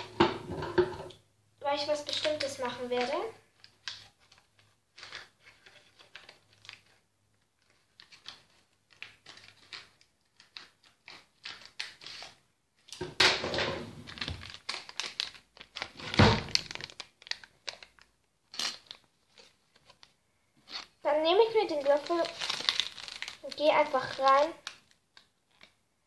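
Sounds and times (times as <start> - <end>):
plastic packet crinkling: 1.6 - 13.0, 14.0 - 25.8.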